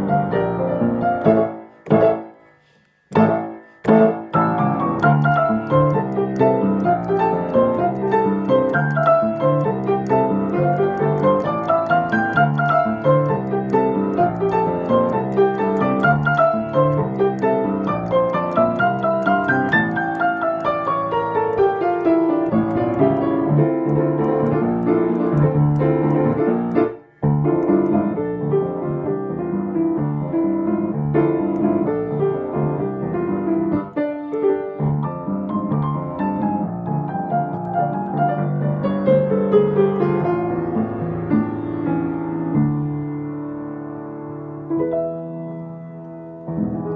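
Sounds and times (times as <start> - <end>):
fast piano music: 0.0 - 2.5, 3.1 - 46.9.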